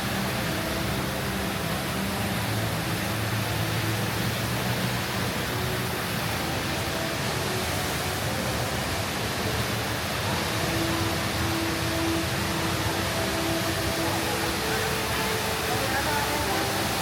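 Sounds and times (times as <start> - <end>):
rush of falling water: 0.0 - 17.0.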